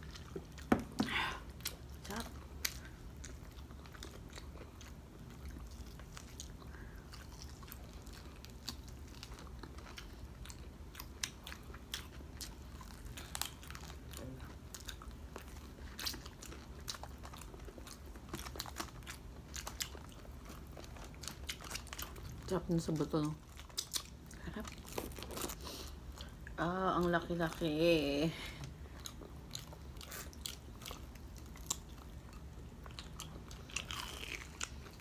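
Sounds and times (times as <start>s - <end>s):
crunchy chewing: 0.0s - 26.6s, 28.9s - 35.0s.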